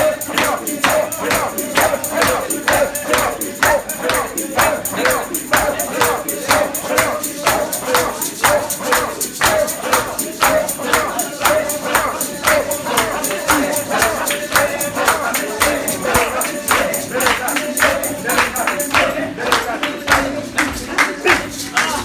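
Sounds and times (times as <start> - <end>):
tambourines shaken and struck: 0.0 - 22.0
voices singing along: 0.0 - 22.0.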